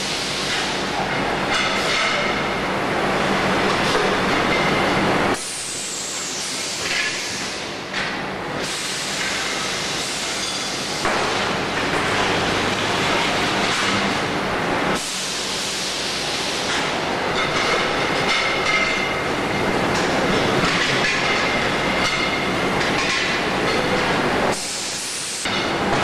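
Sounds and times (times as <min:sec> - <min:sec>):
factory machinery running: 0:00.0 - 0:26.0.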